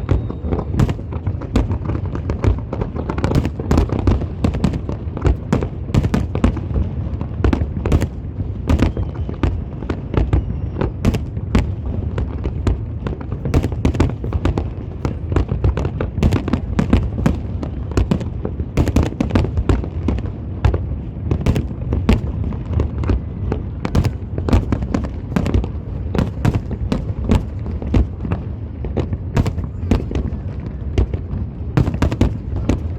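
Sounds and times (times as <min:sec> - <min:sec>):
fireworks bursts and crackling: 0:00.0 - 0:32.9.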